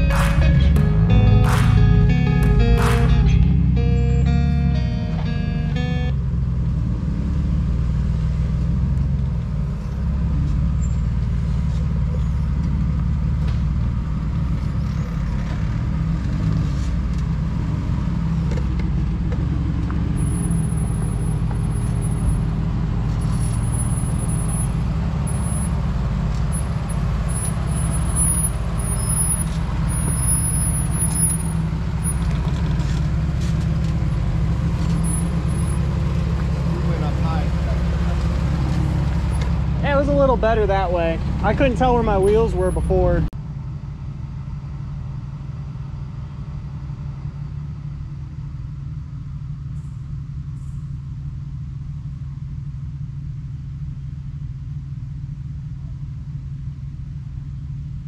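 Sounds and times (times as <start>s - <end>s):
engine rumbling: 0.0s - 58.0s.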